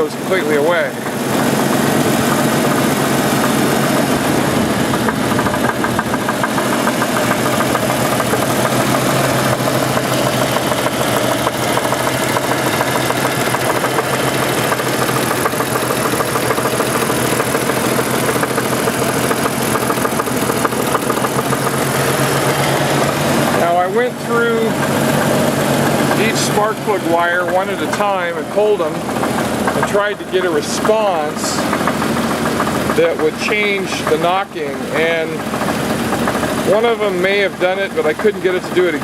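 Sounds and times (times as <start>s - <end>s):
car engine idling: 0.0s - 39.0s
engine knocking: 0.0s - 39.0s.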